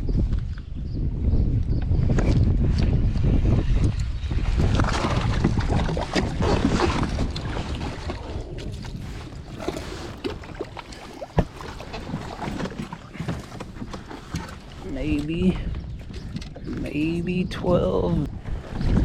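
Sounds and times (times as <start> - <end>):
water around hull: 0.0 - 19.0
wind buffeting microphone: 0.0 - 19.0.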